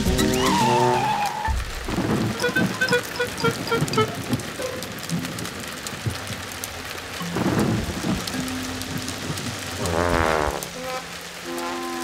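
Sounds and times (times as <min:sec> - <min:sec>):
heavy rain: 0:00.0 - 0:12.0
thunder rumble: 0:00.0 - 0:12.0.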